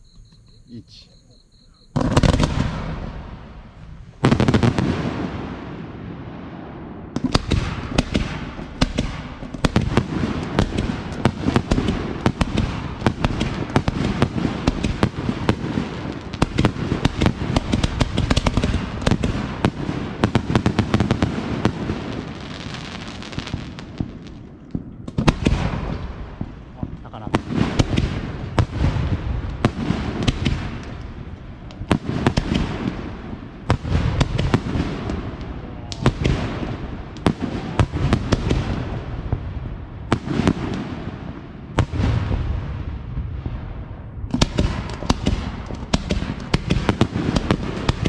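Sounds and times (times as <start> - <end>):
firework booms: 0.0 - 48.0
firework crackling: 1.9 - 6.1, 7.2 - 42.8, 43.5 - 48.0.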